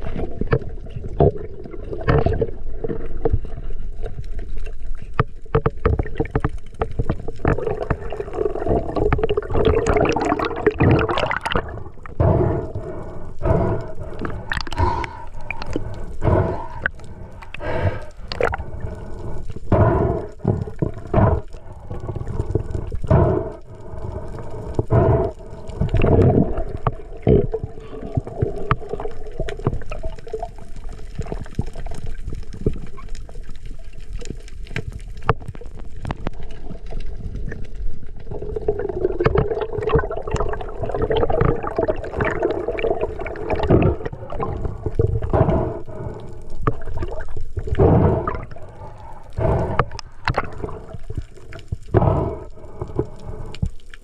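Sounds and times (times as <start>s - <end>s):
seawater gurgling and sloshing: 0.0s - 54.0s.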